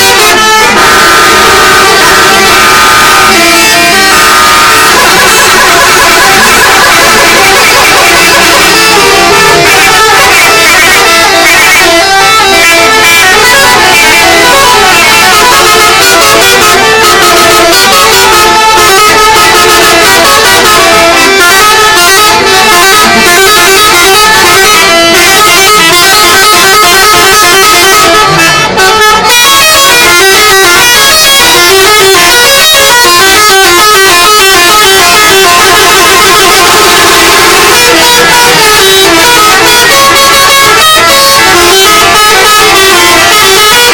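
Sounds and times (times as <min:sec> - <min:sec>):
multi-tone musical air horns: 0:00.0 - 0:43.9.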